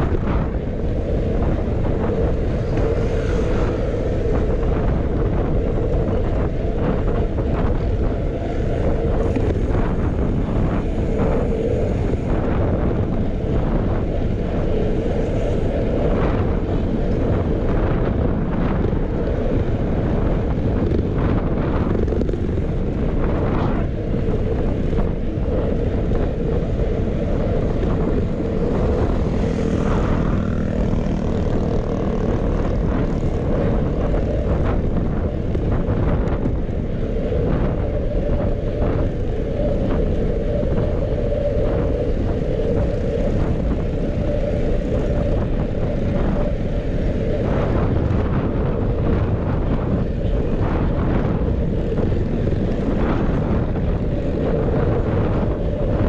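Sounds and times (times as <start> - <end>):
tyre and road noise: 0.0 - 56.0
wind rush on microphone: 0.0 - 56.0.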